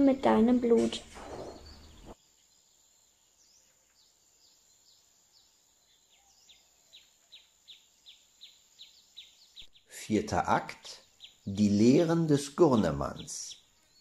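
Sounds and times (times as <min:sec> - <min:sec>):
faint high bird chirps: 0:00.1 - 0:14.0.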